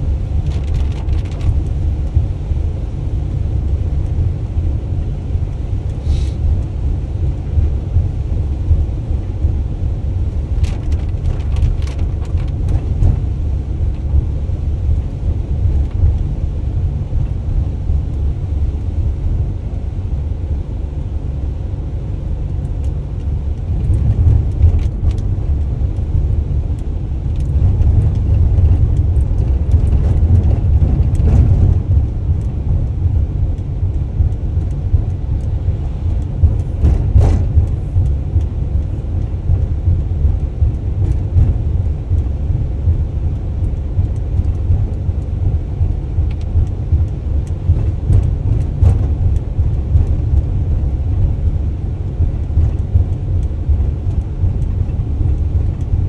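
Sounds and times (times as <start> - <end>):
van engine and road rumble: 0.0 - 56.0.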